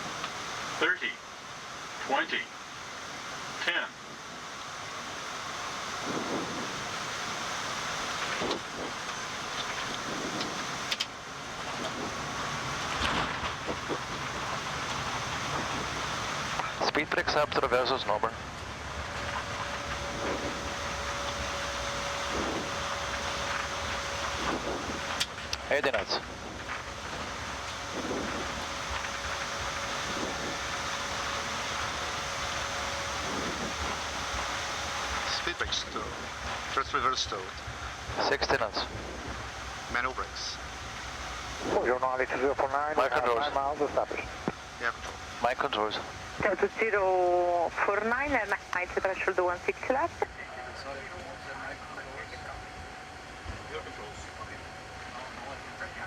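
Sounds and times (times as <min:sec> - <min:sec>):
airflow and engine noise: 0:00.0 - 0:56.0
faint steady hum: 0:00.0 - 0:56.0.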